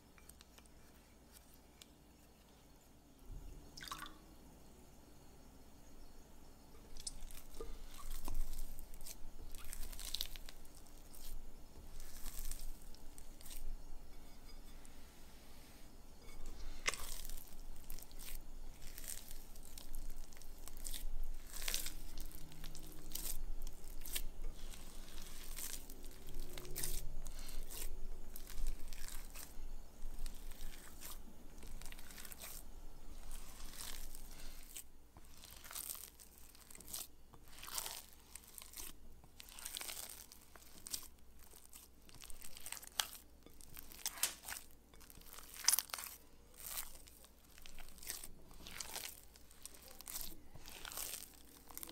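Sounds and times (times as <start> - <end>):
hands kneading wet dough: 0.0 - 4.1, 6.6 - 51.9.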